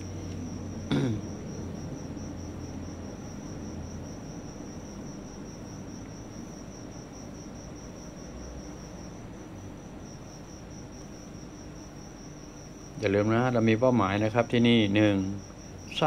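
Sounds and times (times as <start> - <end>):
cricket trilling: 0.0 - 16.0
low background hum: 0.0 - 16.0.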